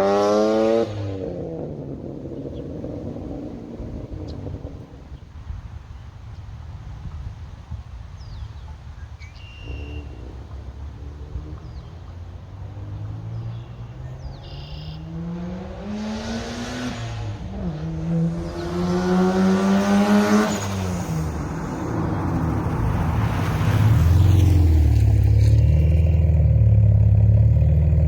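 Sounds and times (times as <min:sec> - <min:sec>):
car engine accelerating: 0:00.0 - 0:05.5, 0:09.6 - 0:28.0.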